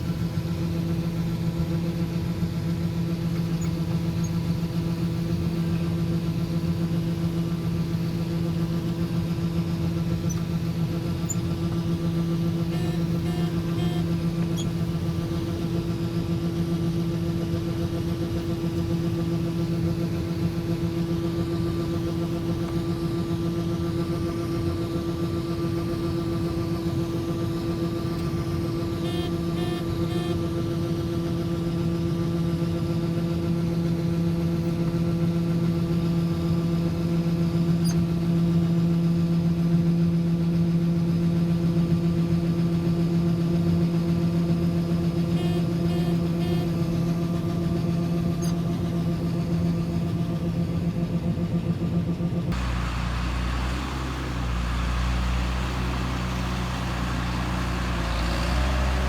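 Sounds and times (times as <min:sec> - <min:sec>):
farm machine engine drone: 0:00.0 - 0:37.5, 0:39.0 - 0:59.0.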